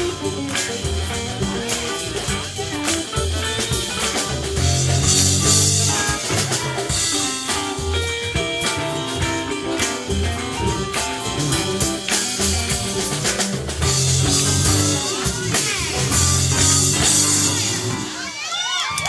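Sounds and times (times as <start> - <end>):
electric guitar: 0.0 - 18.3
bass: 0.0 - 19.0
drum kit: 0.0 - 19.0
keyboards: 0.0 - 19.0.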